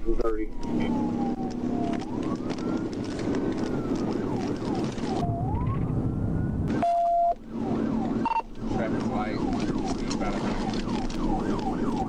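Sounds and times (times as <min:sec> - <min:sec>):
car road and engine noise: 0:00.0 - 0:12.0
police siren wailing: 0:00.2 - 0:12.0.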